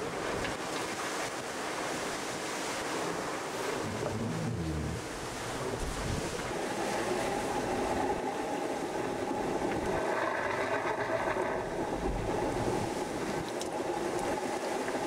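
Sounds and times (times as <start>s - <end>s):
water rushing along a hull: 0.0s - 15.0s
wind over deck: 0.0s - 15.0s.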